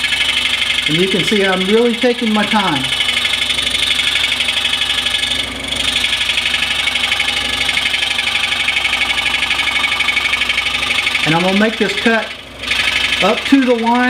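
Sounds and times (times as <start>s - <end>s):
scroll saw cutting wood: 0.0s - 14.0s.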